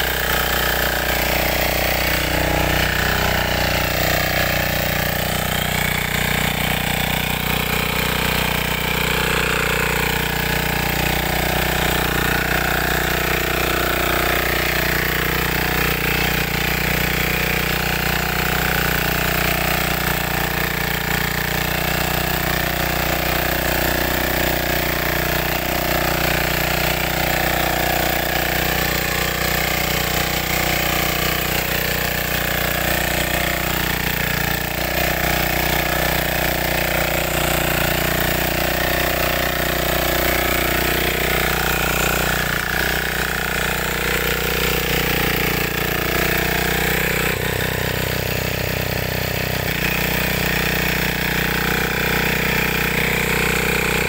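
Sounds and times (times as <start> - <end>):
small engine running under load: 0.0 - 54.0.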